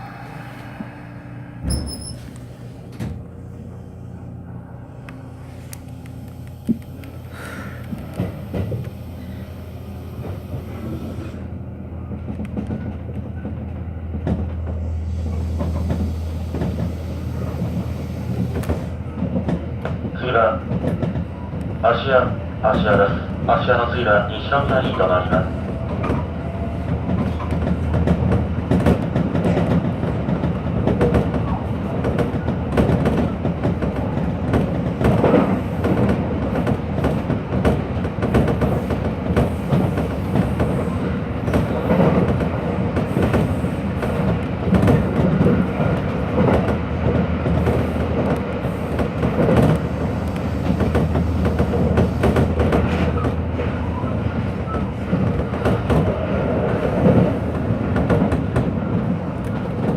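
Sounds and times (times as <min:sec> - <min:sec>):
train motors and wheels rumbling: 0:00.0 - 0:59.9.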